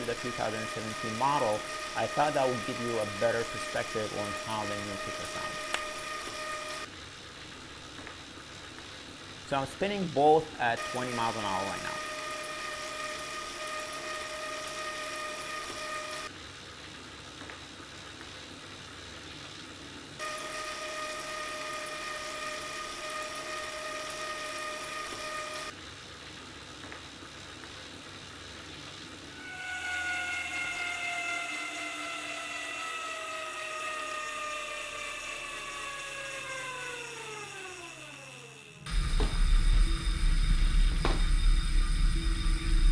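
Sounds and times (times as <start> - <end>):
bike trainer whine: 0.0 - 16.4, 19.4 - 26.2, 26.8 - 42.9
flywheel spinning down: 0.0 - 16.4, 20.2 - 25.8, 28.4 - 42.9
bike trainer soft whir: 0.0 - 42.9.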